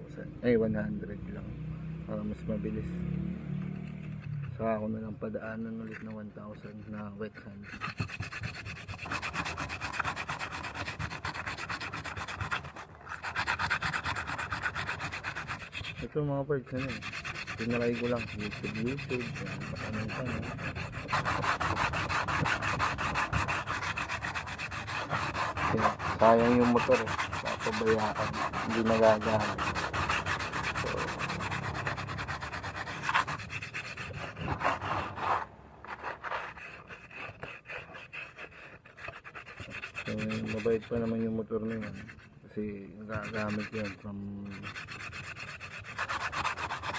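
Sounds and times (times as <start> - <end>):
sandpaper rubbing by hand: 4.0 - 42.3, 43.0 - 46.9.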